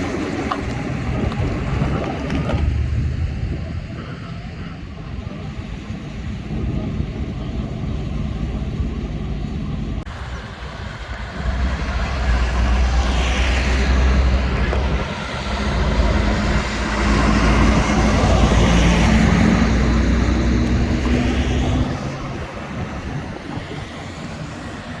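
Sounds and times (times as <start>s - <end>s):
heavy vehicles driving past: 0.0s - 25.0s.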